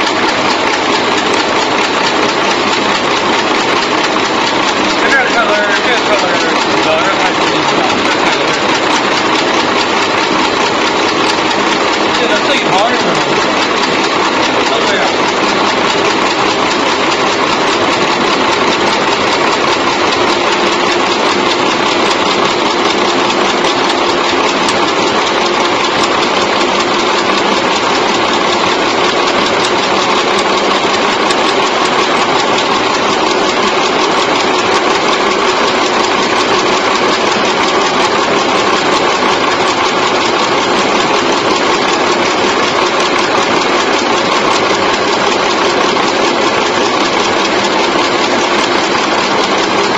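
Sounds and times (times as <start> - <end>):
chewing gum machine running: 0.0 - 49.9.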